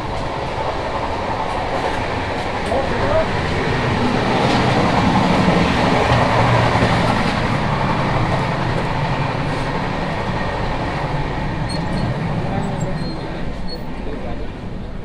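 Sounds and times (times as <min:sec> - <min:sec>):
moving passenger train running: 0:00.0 - 0:15.0.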